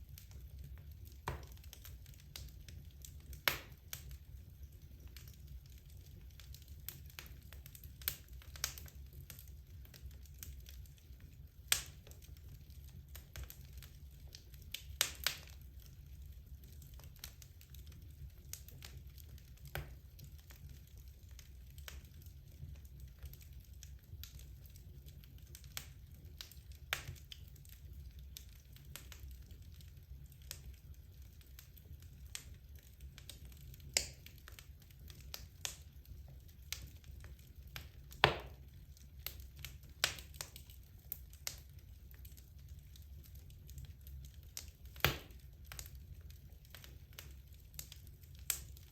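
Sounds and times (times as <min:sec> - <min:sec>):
logs crackling and popping: 0:00.0 - 0:48.9
low rumble of fire: 0:00.0 - 0:48.9.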